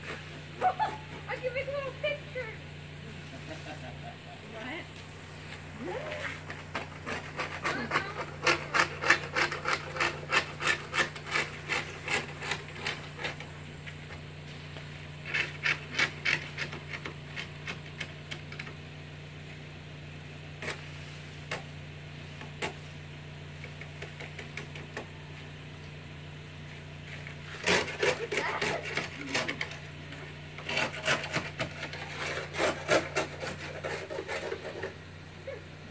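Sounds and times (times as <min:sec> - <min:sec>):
scraping ice off a car: 0:00.0 - 0:35.7.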